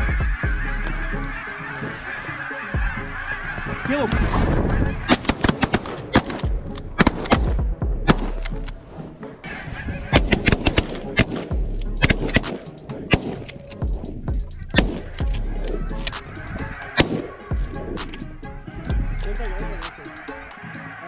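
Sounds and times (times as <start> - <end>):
geese honking: 0.0 - 7.3, 9.2 - 21.0.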